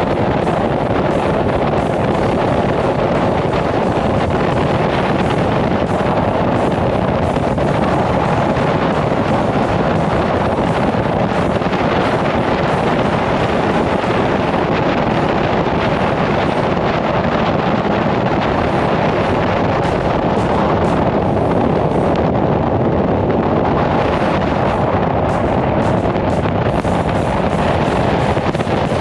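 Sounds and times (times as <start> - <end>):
road noise: 0.0 - 29.0
wind rushing over microphone: 0.0 - 29.0.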